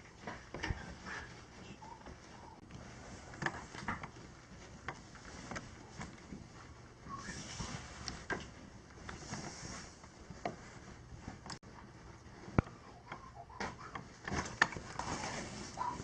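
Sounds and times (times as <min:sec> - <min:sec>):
fabric rustling: 0:00.0 - 0:16.0.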